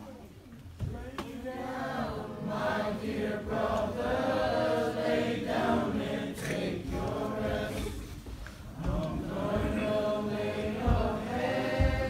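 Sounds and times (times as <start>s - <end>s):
choir singing in harmony: 1.3s - 12.0s.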